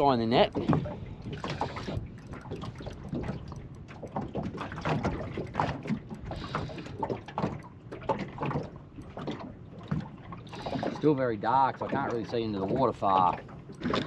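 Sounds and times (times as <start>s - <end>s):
waves lapping against a boat hull: 0.0s - 14.0s.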